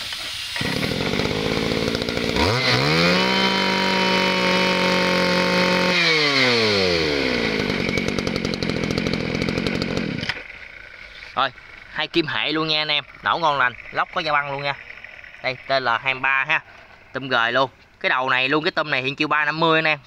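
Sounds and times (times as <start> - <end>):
brushcutter engine revving: 0.0 - 18.5.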